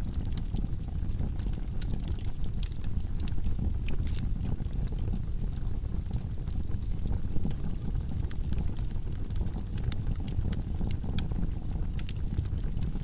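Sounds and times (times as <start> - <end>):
flames roaring: 0.0 - 13.0
wood fire crackling and popping: 0.0 - 13.0.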